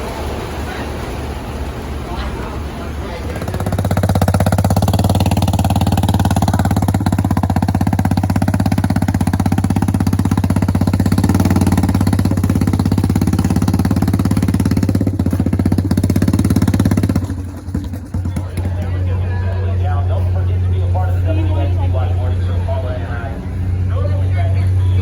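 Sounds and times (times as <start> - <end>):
engine running with fast pulsing: 0.0 - 25.0.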